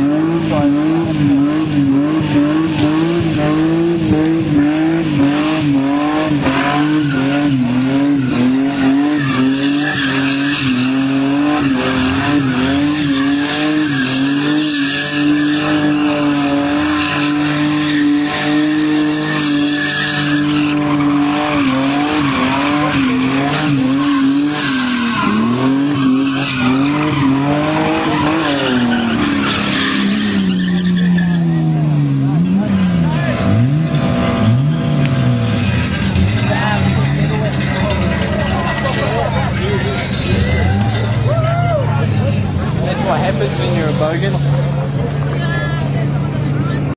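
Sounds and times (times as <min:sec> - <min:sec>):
car engine at high revs: 0:00.0 - 0:46.9
tyres squealing: 0:05.7 - 0:45.3.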